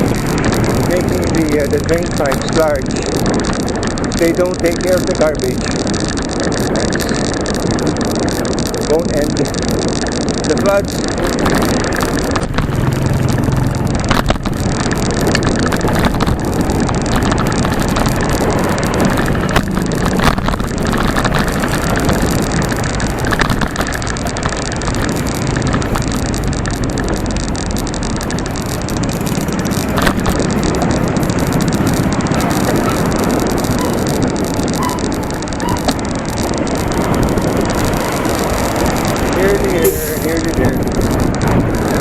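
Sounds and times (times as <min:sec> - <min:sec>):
bicycle road rumble: 0:00.0 - 0:42.0
motor traffic: 0:00.0 - 0:42.0
small clicks and rattles: 0:00.0 - 0:42.0
wind on microphone: 0:00.0 - 0:42.0.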